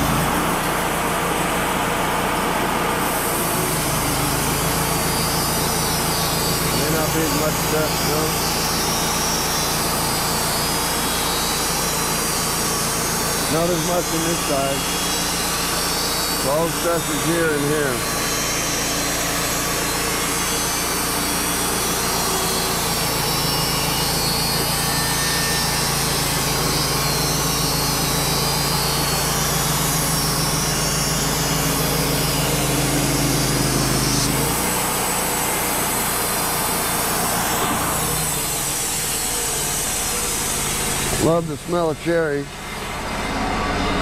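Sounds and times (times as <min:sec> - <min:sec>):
band sawmill cutting wood: 0:00.0 - 0:44.0.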